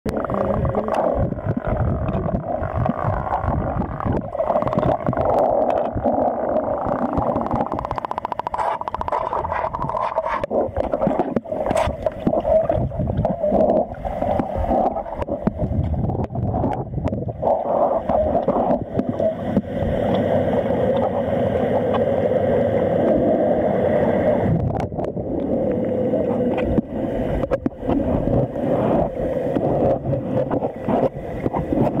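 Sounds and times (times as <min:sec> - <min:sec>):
underwater sloshing and gurgling: 0:00.1 - 0:32.0.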